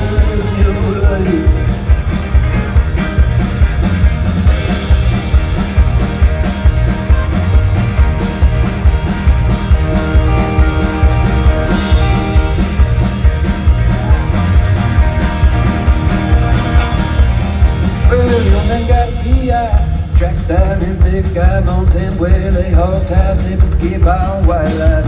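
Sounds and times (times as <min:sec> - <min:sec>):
live band playing instrumental: 0:00.0 - 0:25.0.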